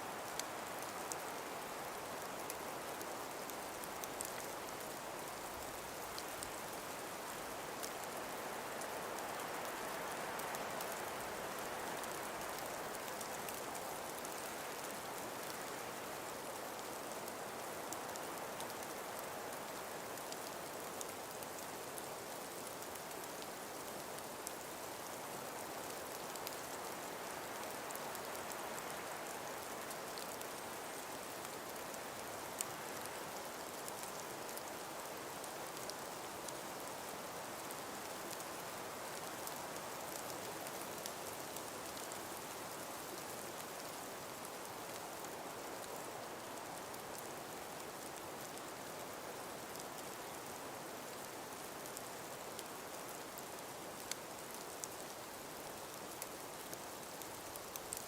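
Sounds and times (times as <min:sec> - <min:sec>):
breeze blowing through trees: 0:00.0 - 0:58.0
faint ticks: 0:00.1 - 0:58.0.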